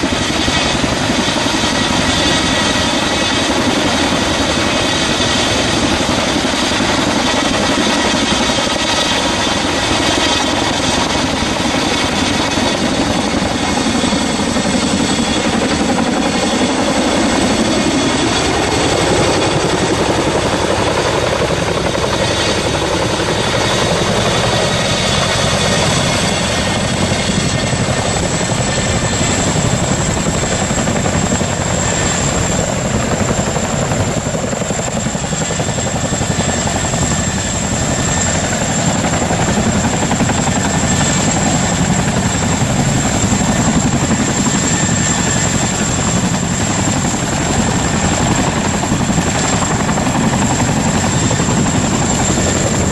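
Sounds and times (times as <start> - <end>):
helicopter rotor and engine: 0.0 - 52.9.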